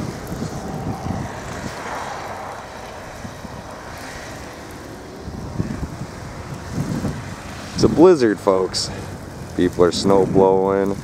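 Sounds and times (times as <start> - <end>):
engine running steadily: 0.0 - 11.0
wind buffeting microphone: 0.0 - 11.0.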